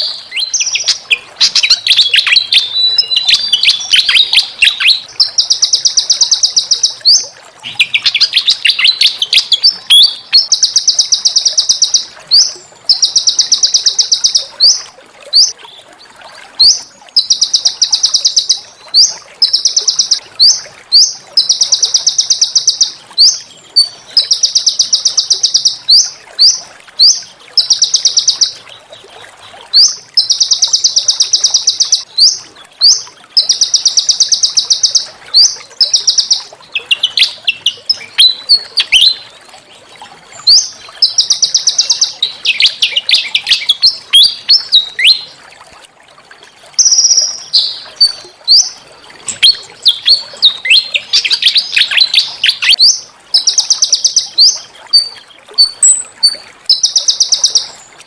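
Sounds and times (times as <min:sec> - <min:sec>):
songbird trilling: 0:00.0 - 0:14.8, 0:16.6 - 0:28.6, 0:29.8 - 0:39.2, 0:40.5 - 0:45.2, 0:46.8 - 0:56.0.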